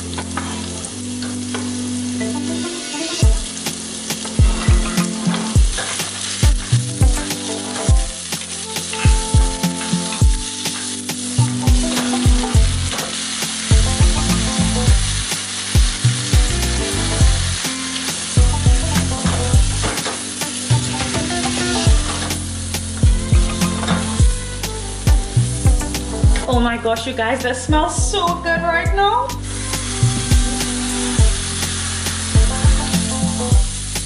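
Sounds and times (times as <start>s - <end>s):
food frying in a pan: 0.0s - 26.2s, 29.3s - 34.0s
background music with beat: 0.0s - 34.0s.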